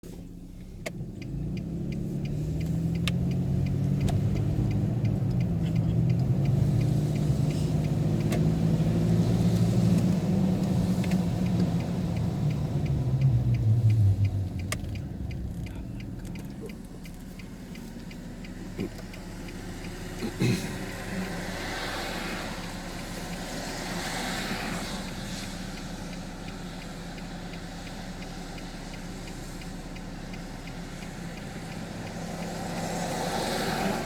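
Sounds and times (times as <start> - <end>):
vehicle engine accelerating: 0.0 - 34.0
light regular ticking: 0.1 - 34.0.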